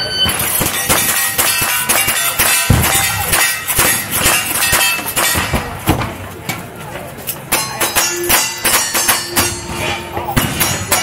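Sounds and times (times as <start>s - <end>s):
steel targets ringing: 0.0s - 5.8s, 7.5s - 11.0s.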